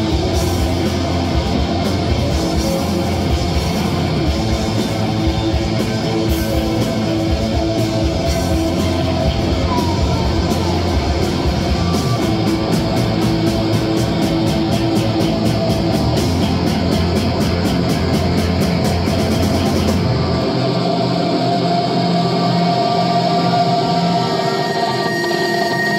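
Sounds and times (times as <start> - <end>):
live rock band playing: 0.0 - 21.5.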